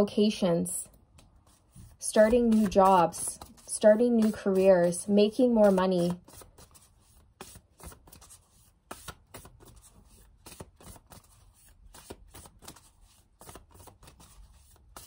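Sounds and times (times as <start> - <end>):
cards being shuffled: 0.9 - 15.0.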